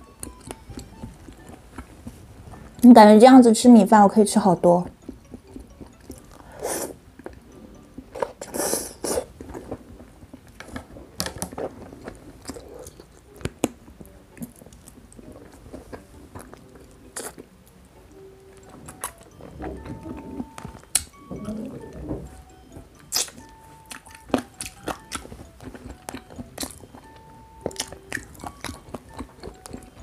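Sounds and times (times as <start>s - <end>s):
close-up chewing: 0.1s - 2.9s, 4.8s - 30.0s.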